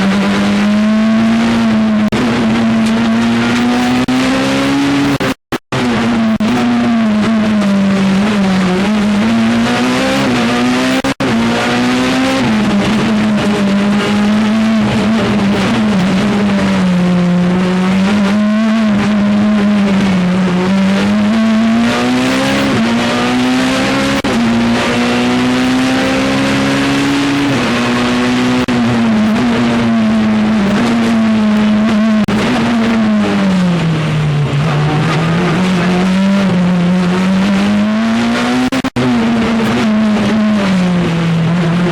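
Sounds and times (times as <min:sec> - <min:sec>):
rally car engine at high revs: 0:00.0 - 0:41.9.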